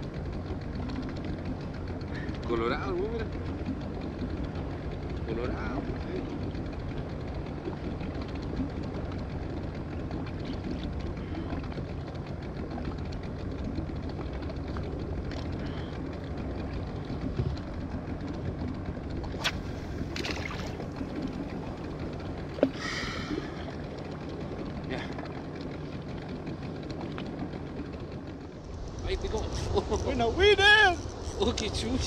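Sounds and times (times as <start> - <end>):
outboard motor idling: 0.0 - 32.0.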